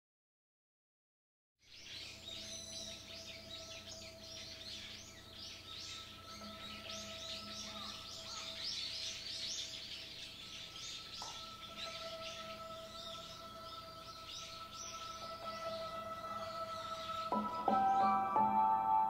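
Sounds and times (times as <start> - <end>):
small birds chirping: 1.6 - 19.0.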